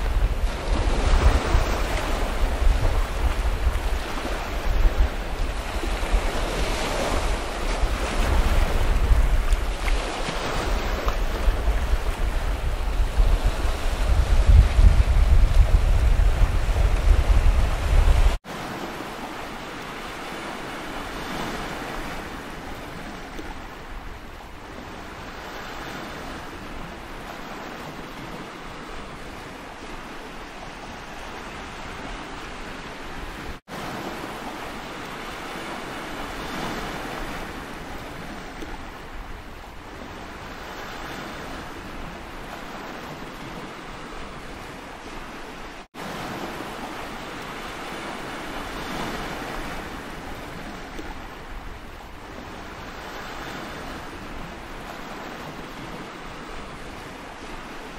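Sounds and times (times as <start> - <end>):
sea surf washing in: 0.0 - 57.9.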